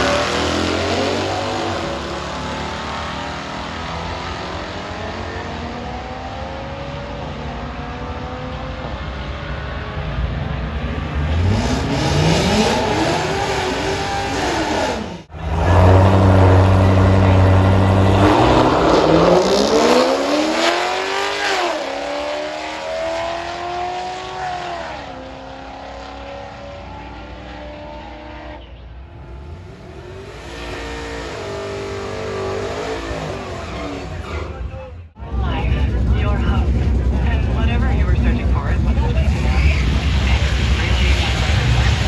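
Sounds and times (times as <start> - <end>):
drag-race engines at full throttle: 0.0 - 42.0.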